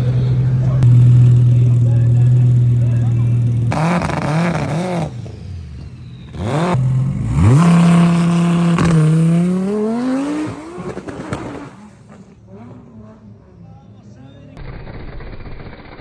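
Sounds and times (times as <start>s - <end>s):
race car engine revving: 0.0s - 14.2s.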